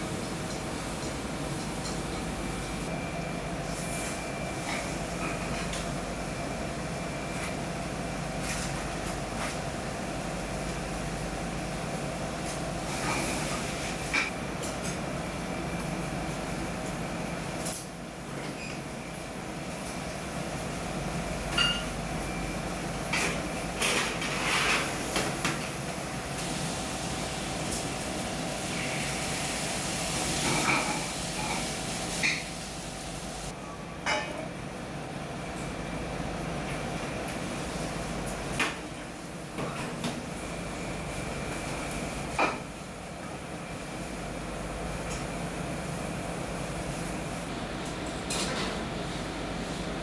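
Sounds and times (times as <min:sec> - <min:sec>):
steady mechanical hum: 0:00.0 - 0:50.0.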